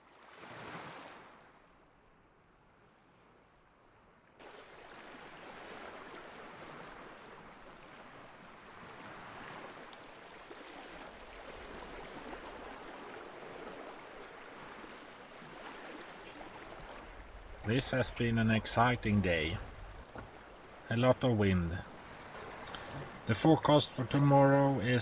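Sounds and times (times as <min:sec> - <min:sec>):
small waves washing on shore: 0:00.0 - 0:25.0.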